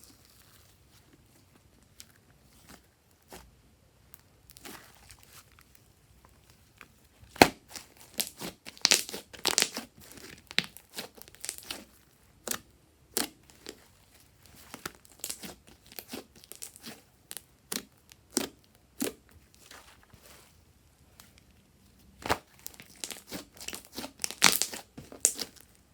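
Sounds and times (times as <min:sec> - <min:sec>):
slime squishing with sticky crackles: 0:00.0 - 0:25.9.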